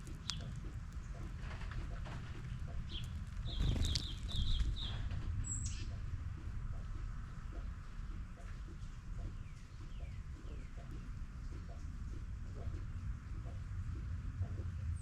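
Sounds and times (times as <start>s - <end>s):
small birds chirping: 0.0s - 13.6s
steady low rumble: 0.0s - 15.0s.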